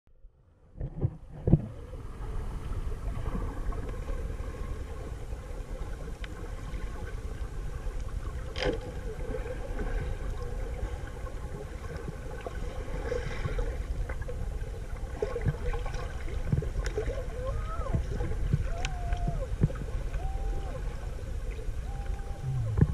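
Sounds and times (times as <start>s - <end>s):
muffled underwater rumble: 0.1s - 22.9s.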